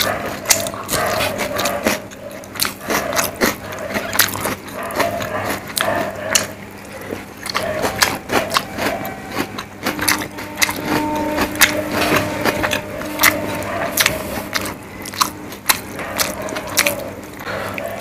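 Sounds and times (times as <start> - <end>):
fingers squishing rice: 0.0 - 18.0
lip and mouth clicks: 0.0 - 18.0
wet chewing: 0.0 - 18.0.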